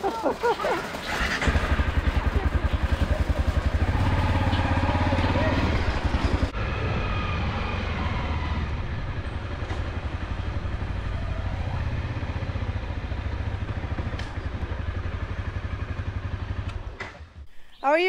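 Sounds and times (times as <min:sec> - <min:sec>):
motorcycle engine chugging: 0:00.0 - 0:07.0, 0:08.8 - 0:18.0.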